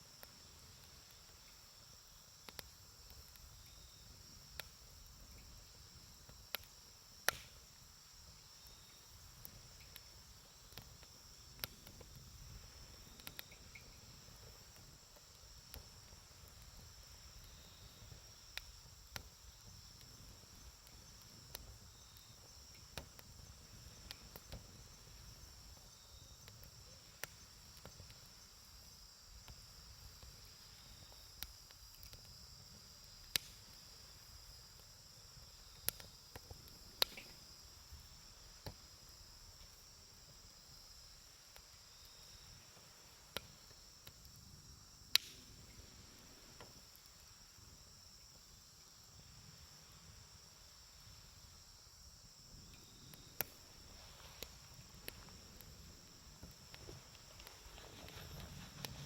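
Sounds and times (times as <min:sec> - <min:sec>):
campfire crackling and popping: 0:00.0 - 0:59.0
crickets chirping: 0:00.0 - 0:59.0.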